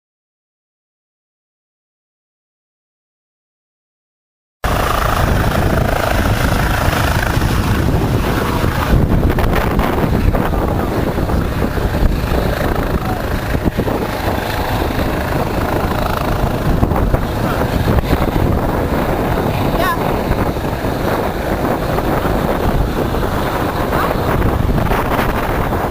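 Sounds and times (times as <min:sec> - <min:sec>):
helicopter overhead: 0:04.6 - 0:25.9
wind buffeting microphone: 0:04.6 - 0:25.9.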